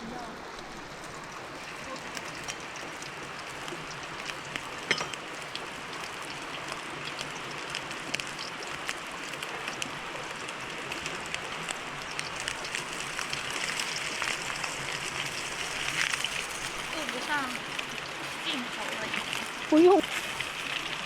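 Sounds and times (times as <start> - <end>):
meat sizzling in hot oil: 0.8 - 21.0.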